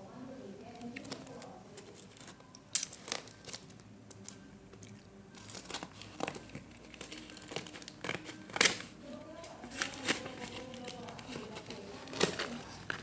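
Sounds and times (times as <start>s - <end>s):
packaging crinkling and tearing: 0.8s - 13.0s.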